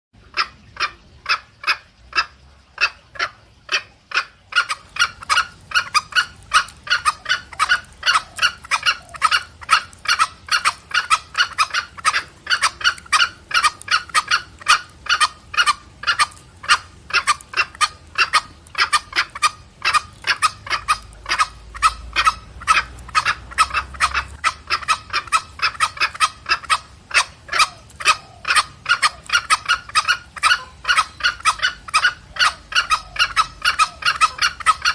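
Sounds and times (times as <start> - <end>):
junglefowl clucking calls: 0.2 - 34.9.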